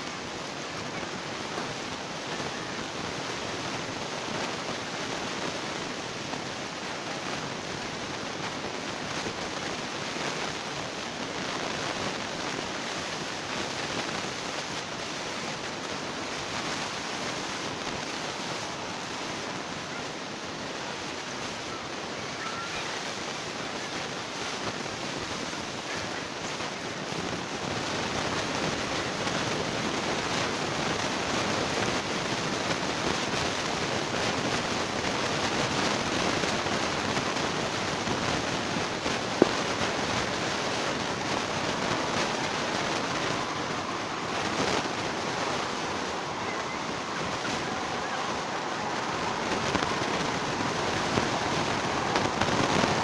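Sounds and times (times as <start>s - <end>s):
steady rushing noise: 0.0s - 53.0s.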